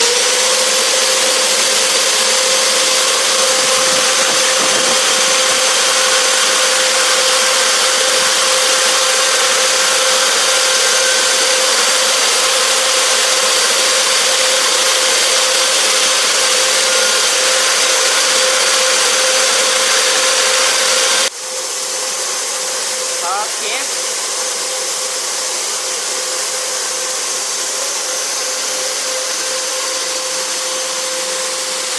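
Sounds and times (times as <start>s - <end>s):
motor whine: 0.0s - 31.9s.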